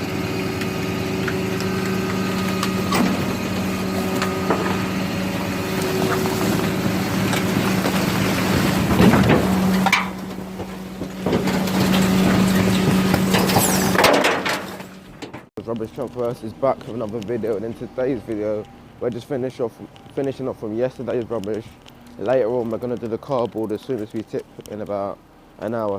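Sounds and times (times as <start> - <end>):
garbage truck engine and compactor hum: 0.0 - 25.9
rubbish crushing cracks and crunches: 0.3 - 25.9.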